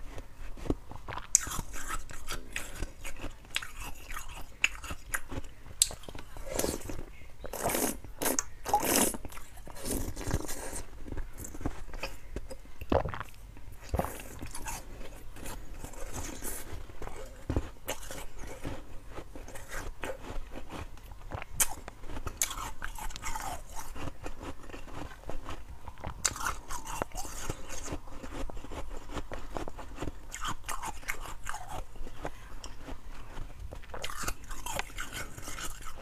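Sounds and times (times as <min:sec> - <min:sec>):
chewing crunchy ice: 0:00.0 - 0:36.0.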